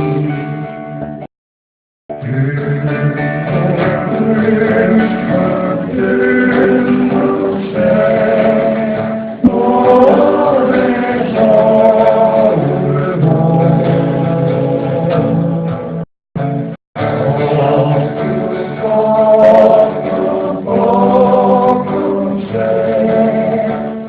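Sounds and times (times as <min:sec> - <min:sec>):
voices singing in harmony: 0:00.0 - 0:00.8, 0:02.2 - 0:16.0, 0:17.0 - 0:24.0.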